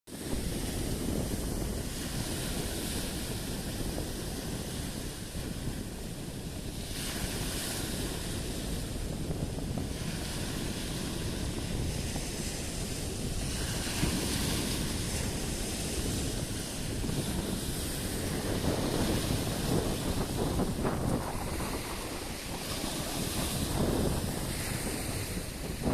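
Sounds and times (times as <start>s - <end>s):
waves breaking and washing in: 0.1s - 25.9s
wind buffeting microphone: 0.1s - 25.9s.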